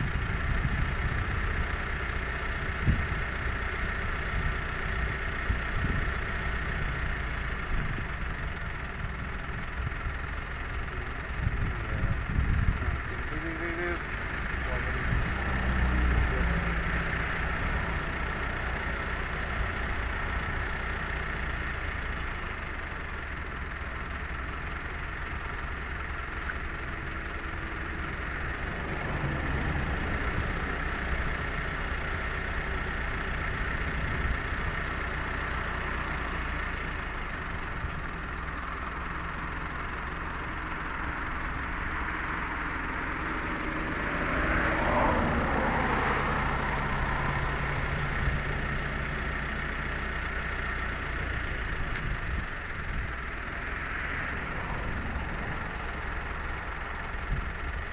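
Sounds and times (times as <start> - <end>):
low engine rumble: 0.0 - 57.9.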